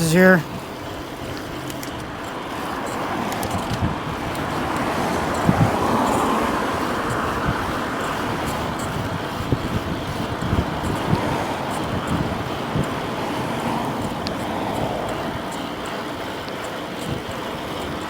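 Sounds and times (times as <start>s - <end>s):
car passing: 0.0s - 18.0s
road traffic noise: 0.0s - 18.0s.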